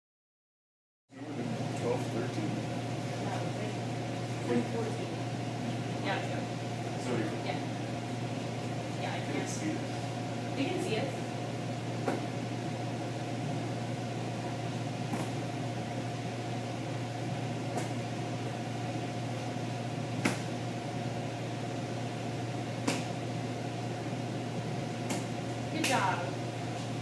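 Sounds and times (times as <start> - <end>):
low equipment hum: 1.1 - 27.0.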